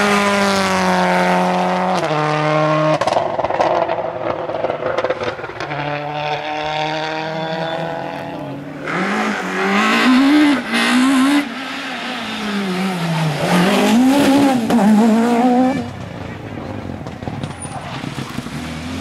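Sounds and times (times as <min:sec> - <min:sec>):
rally car engine revving hard: 0:00.0 - 0:16.0
rally car engine pulling away: 0:00.0 - 0:19.0.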